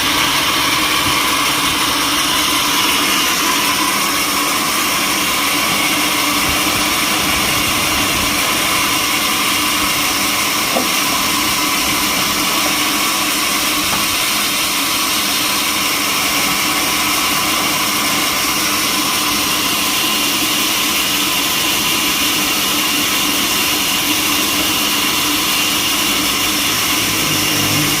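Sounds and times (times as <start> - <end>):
sawmill machinery whining: 0.0 - 28.0.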